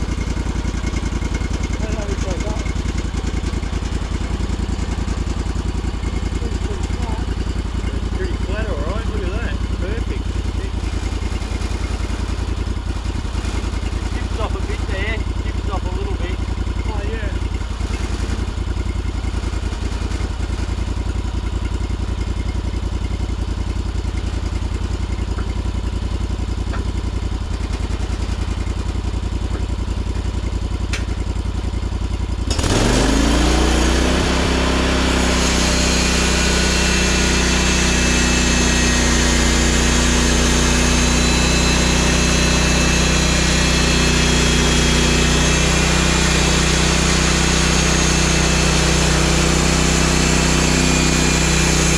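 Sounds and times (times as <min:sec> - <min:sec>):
sawmill engine idling and revving: 0:00.0 - 0:51.9.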